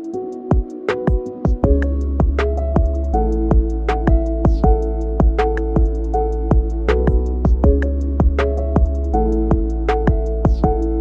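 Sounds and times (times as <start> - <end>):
drum hits: 0.5 - 10.8
deep bass: 1.6 - 11.0.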